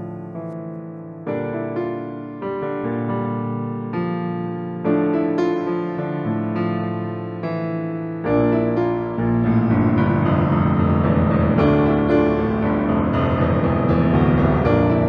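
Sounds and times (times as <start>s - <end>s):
piano ballad chords: 0.0s - 15.0s.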